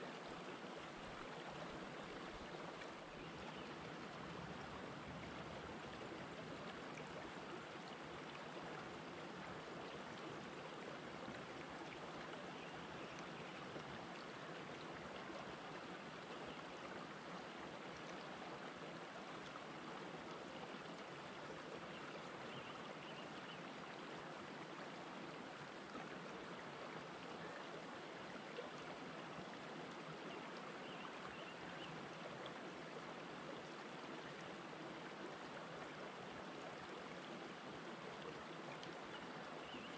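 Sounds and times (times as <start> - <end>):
faint stream rushing: 0.0 - 39.9.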